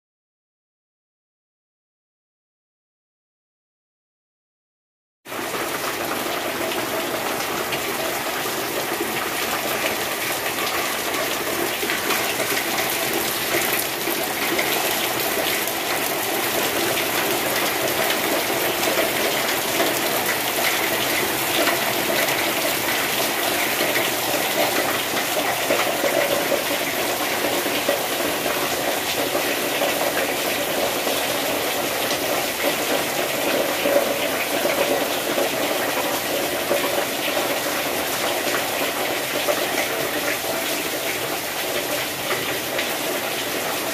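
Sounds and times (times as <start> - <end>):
heavy rain: 5.3 - 43.9
water pouring off roof: 5.3 - 43.9.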